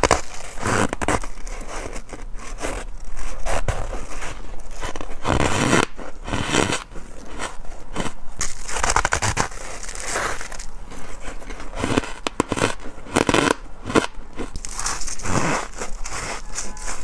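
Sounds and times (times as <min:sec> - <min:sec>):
person crunching frost: 0:00.0 - 0:17.0.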